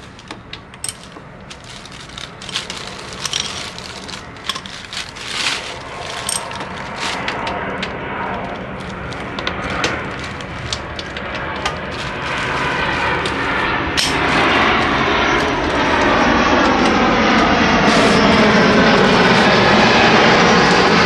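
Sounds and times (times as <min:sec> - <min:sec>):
tools clicking and knocking: 0:00.0 - 0:17.0
steady low hum: 0:00.0 - 0:21.0.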